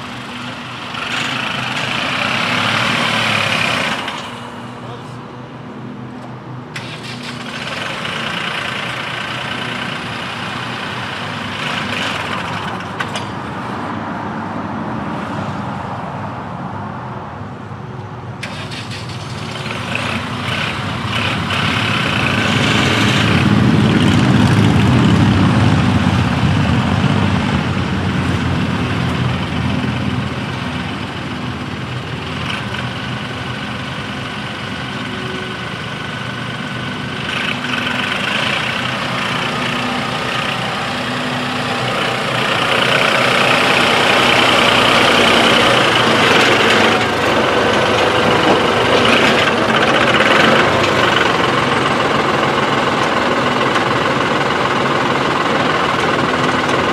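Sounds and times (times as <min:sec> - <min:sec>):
front loader scraping soil: 0:00.0 - 0:04.7, 0:06.8 - 0:13.9, 0:18.4 - 0:25.1, 0:28.1 - 0:56.9
tractor diesel engine running: 0:00.0 - 0:13.9, 0:18.2 - 0:56.9.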